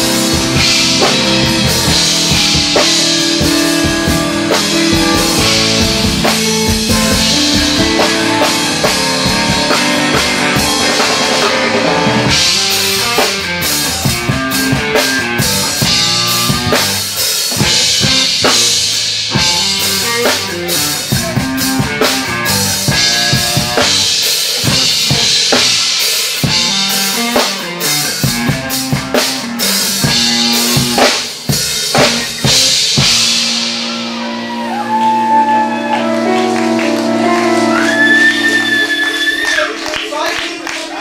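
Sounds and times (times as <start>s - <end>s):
live band playing: 0.0s - 41.0s.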